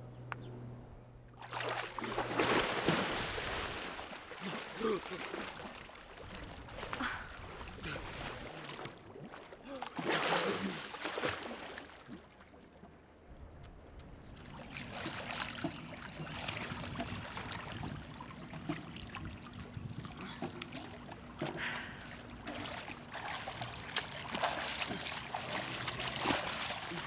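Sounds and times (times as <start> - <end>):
pool water splashing: 1.3 - 13.2, 13.8 - 27.0.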